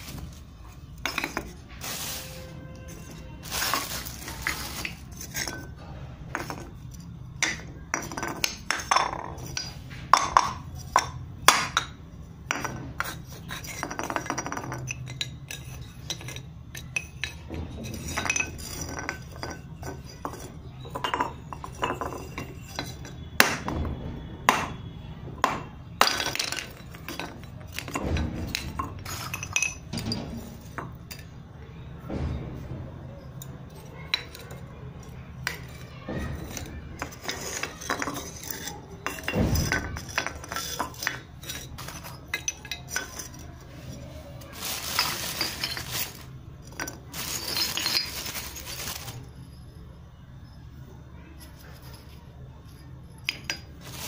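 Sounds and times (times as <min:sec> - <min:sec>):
clay pots clinking: 0:00.0 - 0:50.6, 0:51.4 - 0:54.0.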